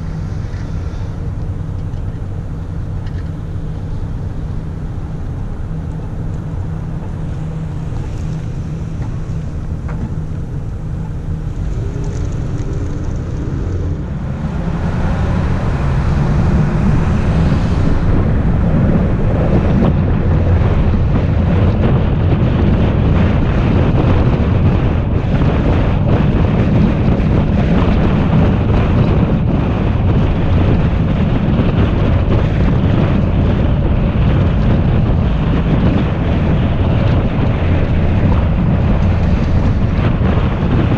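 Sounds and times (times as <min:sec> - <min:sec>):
car engine humming: 0:00.0 - 0:40.9
tyre noise on concrete road: 0:00.0 - 0:40.9
wind on microphone: 0:00.0 - 0:40.9.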